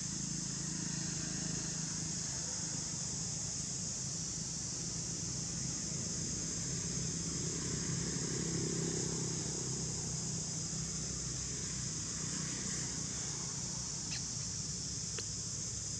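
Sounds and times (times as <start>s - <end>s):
high-pitched hiss: 0.0s - 15.9s.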